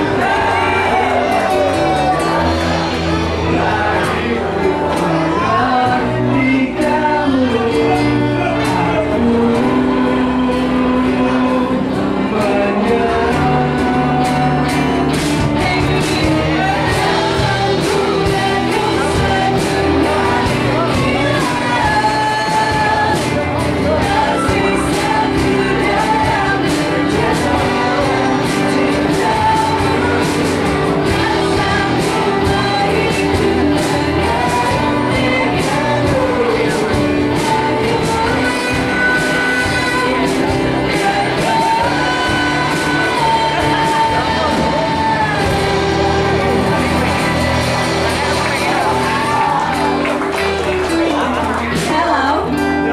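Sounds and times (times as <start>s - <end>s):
bass: 0.0s - 52.9s
drums: 0.0s - 52.9s
electric guitars: 0.0s - 52.9s
keyboard: 0.0s - 52.9s
person singing: 0.0s - 52.9s.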